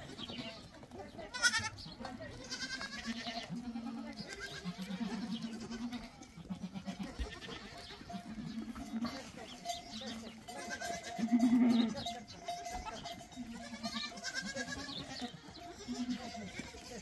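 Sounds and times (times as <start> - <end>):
livestock bleating: 0.0 - 17.0.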